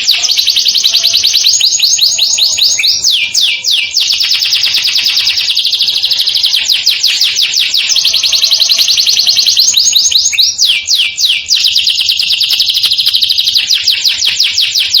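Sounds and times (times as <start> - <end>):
canary singing trills: 0.0 - 15.0.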